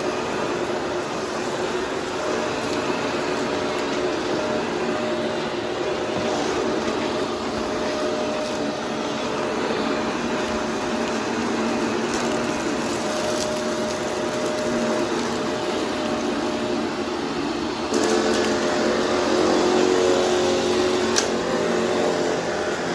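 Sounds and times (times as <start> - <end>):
debris rattling in vacuum: 0.0 - 22.9
vacuum cleaner motor whine: 0.0 - 22.9.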